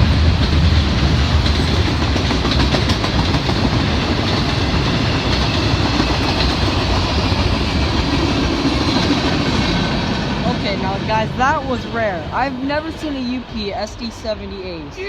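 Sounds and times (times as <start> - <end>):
freight cars rolling on rails: 0.0 - 15.0.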